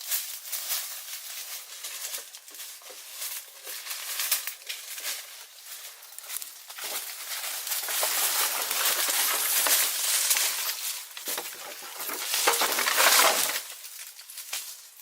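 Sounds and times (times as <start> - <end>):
dry material crunching and rustling: 0.0 - 15.0.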